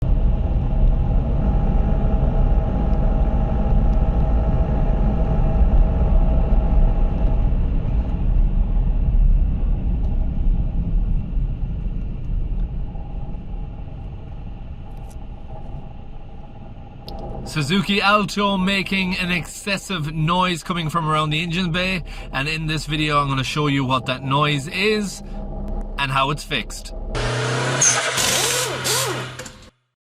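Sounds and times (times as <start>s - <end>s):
car engine running: 0.1s - 29.7s.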